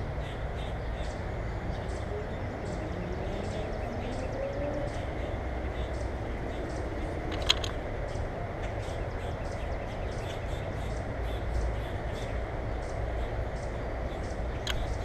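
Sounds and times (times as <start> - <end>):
steady low rumble: 0.0 - 15.0
small birds chirping: 0.1 - 15.0.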